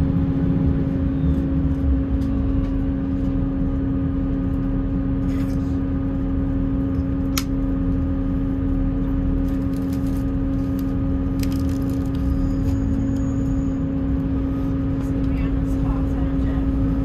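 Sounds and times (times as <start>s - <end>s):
train diesel engine drone: 0.0s - 17.0s
wheels rumbling on rails: 0.0s - 17.0s.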